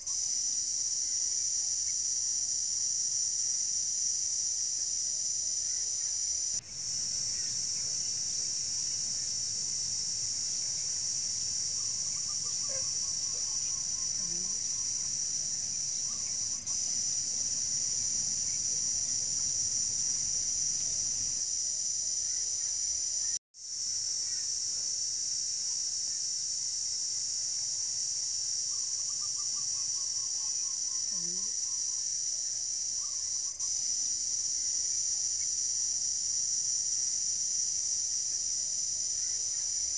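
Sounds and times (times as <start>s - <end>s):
shrill insect chorus: 0.0s - 39.9s.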